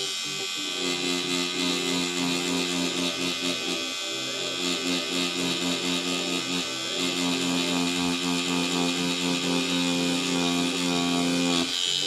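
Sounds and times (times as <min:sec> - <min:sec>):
tattoo machine buzzing: 0:00.0 - 0:12.0.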